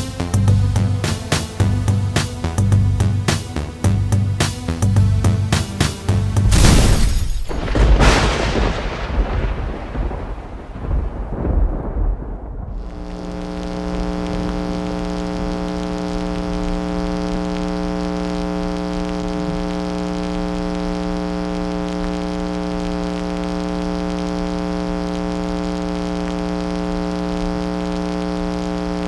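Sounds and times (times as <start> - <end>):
electronic buzzing drone: 0.0 - 7.9, 12.7 - 29.0.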